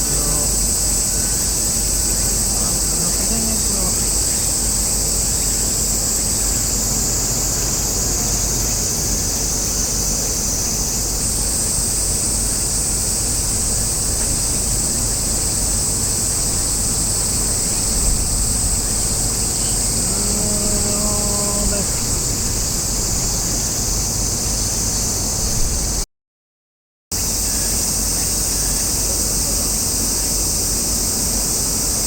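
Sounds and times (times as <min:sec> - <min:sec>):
cicadas droning: 0:00.0 - 0:26.0, 0:27.2 - 0:32.0.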